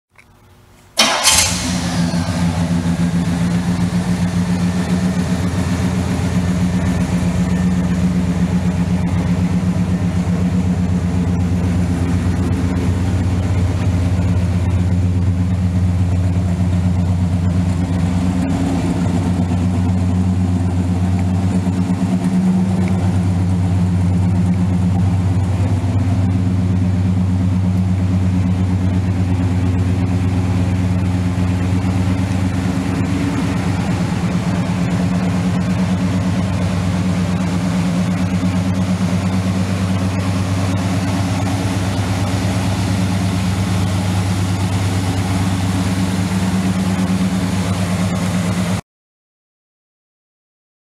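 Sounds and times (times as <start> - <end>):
car engine starting and idling: 0.2 - 48.8.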